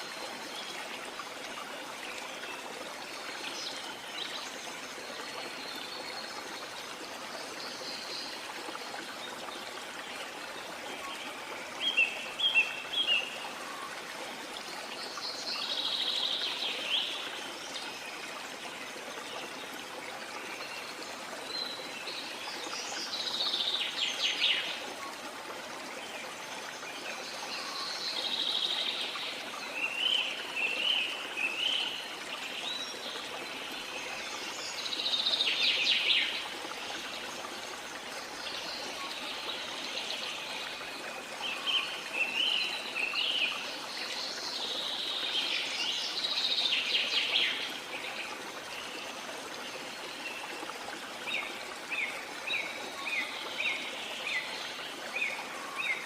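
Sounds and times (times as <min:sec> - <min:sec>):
running water or rain: 0:00.0 - 0:56.0.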